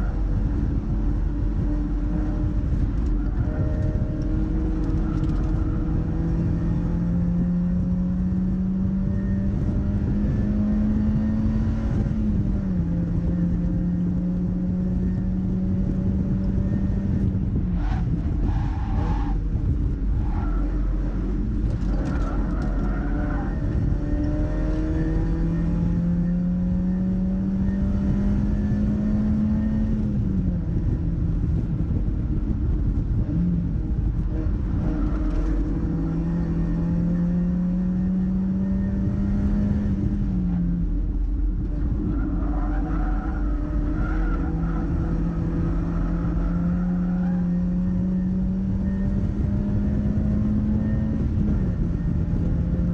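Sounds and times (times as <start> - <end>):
car engine accelerating: 0.0 - 52.9
heavy wind: 0.0 - 52.9
road rumble: 0.0 - 52.9.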